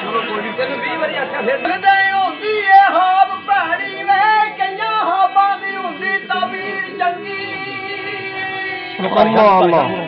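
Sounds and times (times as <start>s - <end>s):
steady held musical tones: 0.0s - 10.0s
folk singing: 1.4s - 10.0s.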